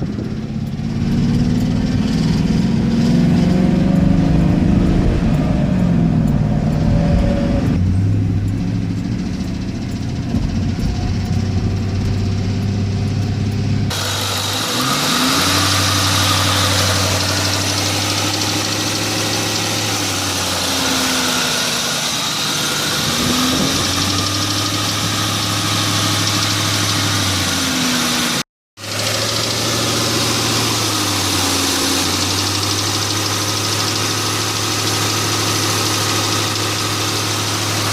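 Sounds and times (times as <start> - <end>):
car engine revving: 0.0 - 37.9
engine ticking: 0.0 - 37.9.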